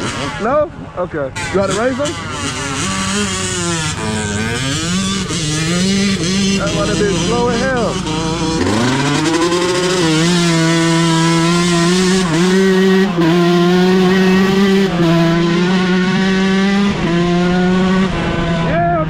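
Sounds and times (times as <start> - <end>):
dirt bike engine revving: 0.0 - 0.6, 1.3 - 19.0.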